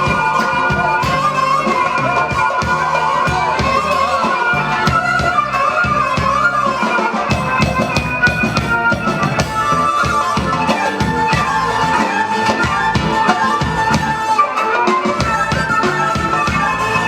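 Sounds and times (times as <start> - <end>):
drum kit beat: 0.0 - 17.0
live band playing pop song: 0.0 - 17.0
ornamented melody line: 0.0 - 17.0.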